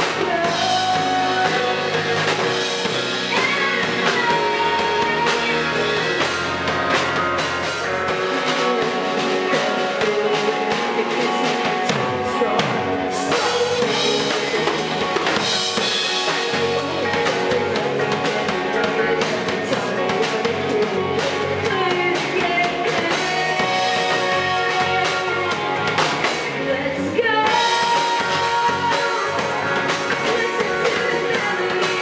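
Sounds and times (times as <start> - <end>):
drum beat: 0.0 - 26.6
bass guitar: 0.0 - 32.0
electric guitars: 0.0 - 32.0.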